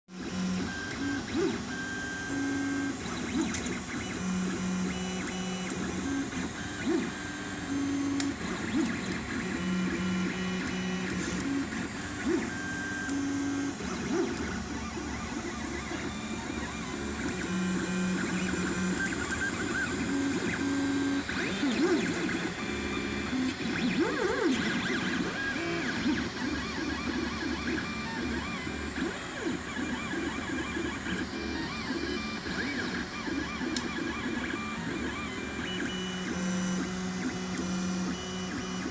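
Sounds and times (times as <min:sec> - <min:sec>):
stepper motors whining: 0:00.4 - 0:38.9.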